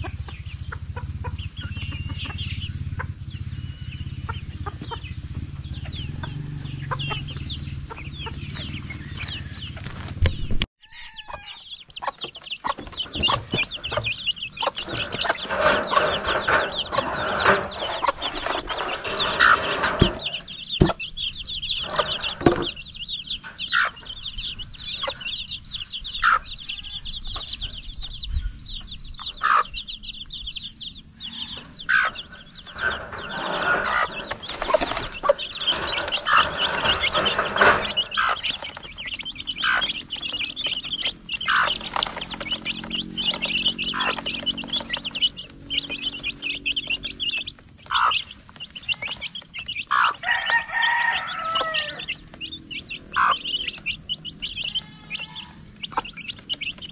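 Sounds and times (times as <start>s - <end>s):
chicks peeping: 0.0s - 56.9s
hen clucking: 0.0s - 56.9s.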